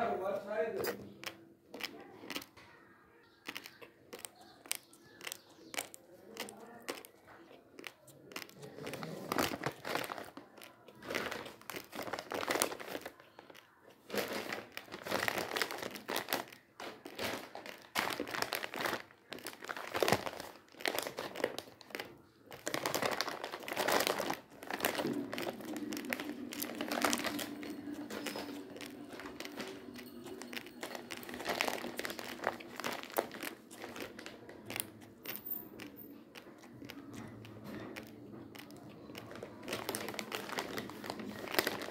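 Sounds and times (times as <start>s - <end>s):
plastic packets crinkling: 3.2s - 41.9s.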